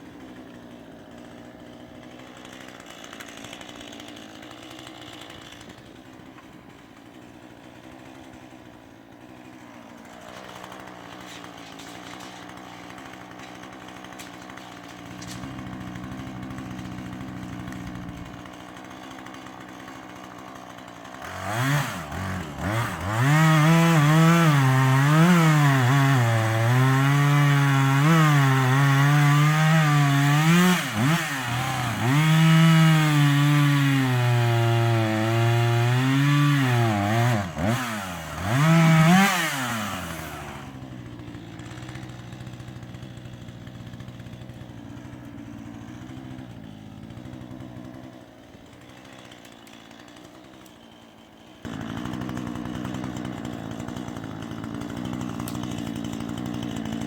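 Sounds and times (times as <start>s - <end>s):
chainsaw idling: 0.0s - 57.0s
chainsaw revving and cutting wood: 0.0s - 57.0s.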